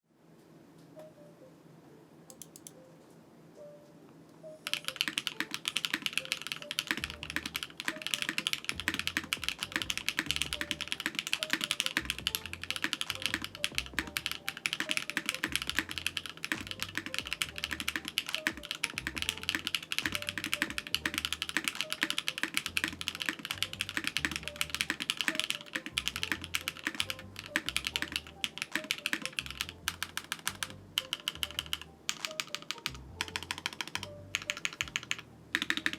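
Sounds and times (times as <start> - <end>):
fast mechanical keyboard typing: 4.6 - 35.9.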